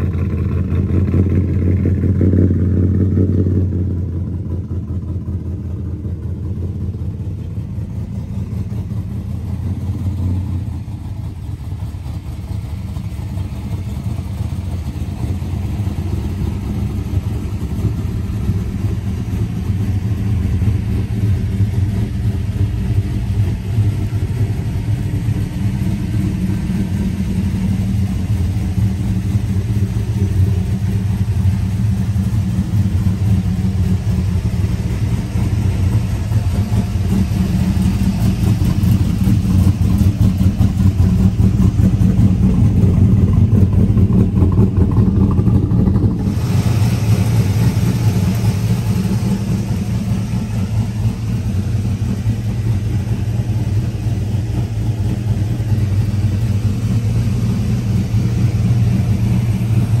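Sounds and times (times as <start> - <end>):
vee eight engine idling: 0.0 - 60.0.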